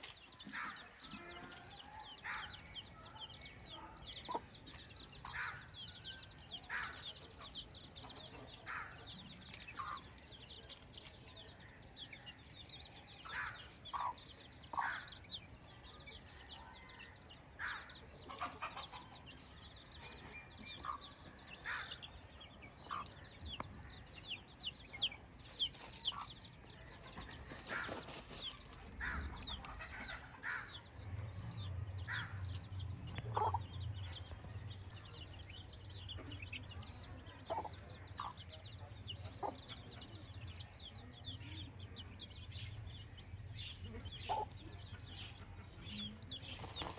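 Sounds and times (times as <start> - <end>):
chickens clucking: 0.0 - 11.2, 12.0 - 46.9.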